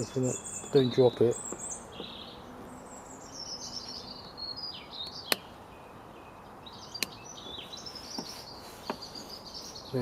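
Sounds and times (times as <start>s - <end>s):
birds singing and chirping: 0.0s - 10.0s.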